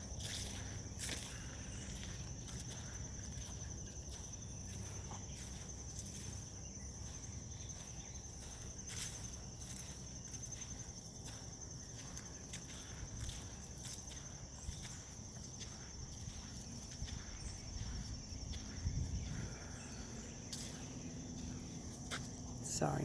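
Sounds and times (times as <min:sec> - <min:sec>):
crickets trilling: 0:00.0 - 0:23.0
footsteps on path: 0:00.0 - 0:23.0.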